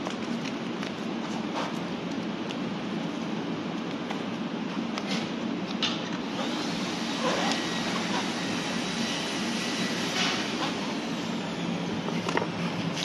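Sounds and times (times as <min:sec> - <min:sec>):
machine whooshing hum: 0:00.0 - 0:13.0.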